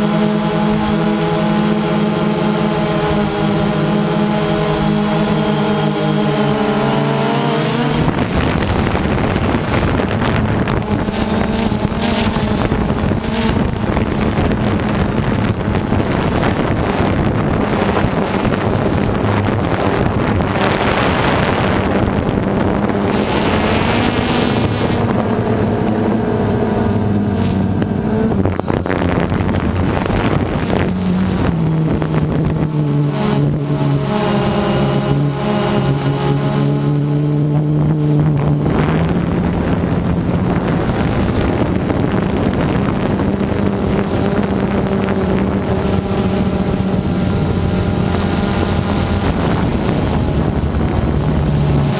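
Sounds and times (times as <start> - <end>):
drone propellers humming: 0.0 - 51.9
wind rushing over microphone: 0.0 - 51.9.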